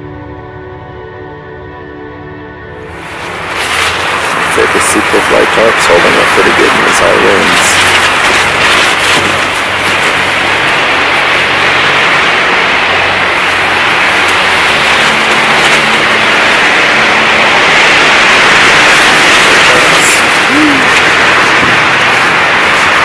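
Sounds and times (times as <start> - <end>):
wind blowing over tarp: 2.9 - 23.0.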